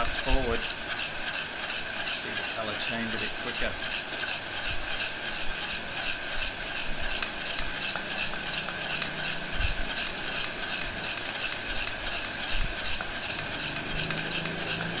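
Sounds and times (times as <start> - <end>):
coffee beans rattling: 0.0 - 15.0
metal spoon scraping pot: 0.0 - 15.0.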